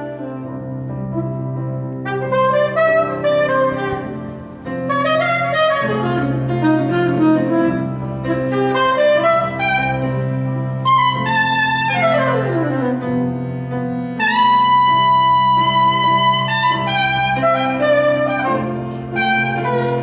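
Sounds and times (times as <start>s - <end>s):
low held accompaniment: 0.0s - 20.0s
saxophone playing jazz: 0.0s - 20.0s.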